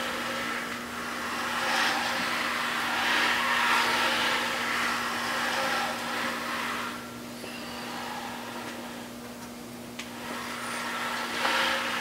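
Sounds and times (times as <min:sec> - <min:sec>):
engine crankshaft turning swish: 0:00.0 - 0:09.2, 0:10.1 - 0:12.0
steady low hum: 0:00.0 - 0:12.0.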